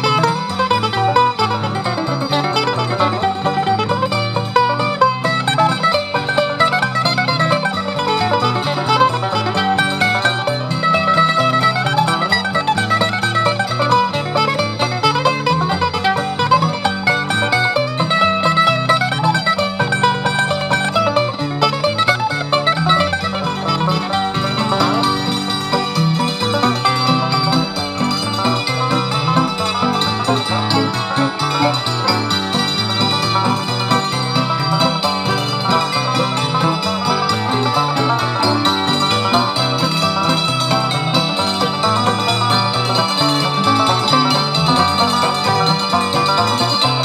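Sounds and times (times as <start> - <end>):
country string band playing: 0.0 - 47.0.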